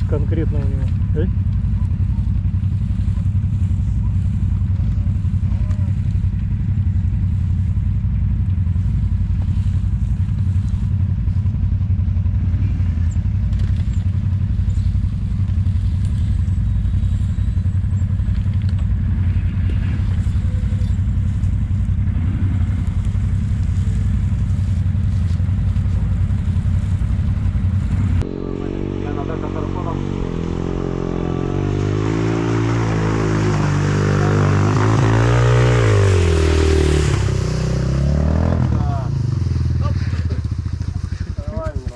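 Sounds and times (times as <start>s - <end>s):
off-road vehicle engine running: 0.0s - 41.9s.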